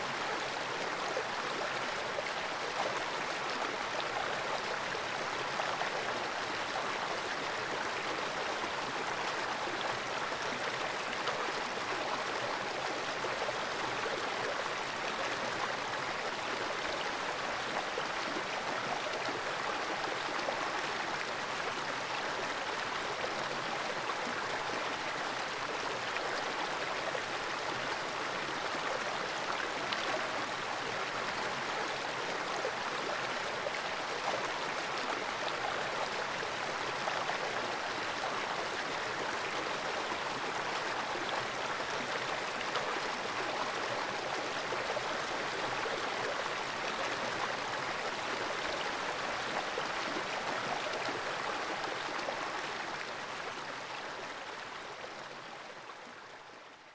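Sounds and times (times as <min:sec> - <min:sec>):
creek water rushing: 0:00.0 - 0:56.9.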